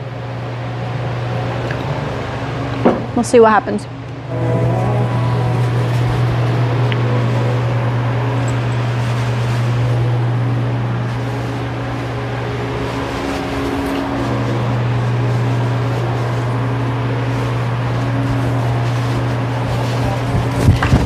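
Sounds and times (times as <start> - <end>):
loud low machine hum: 0.0 - 21.0.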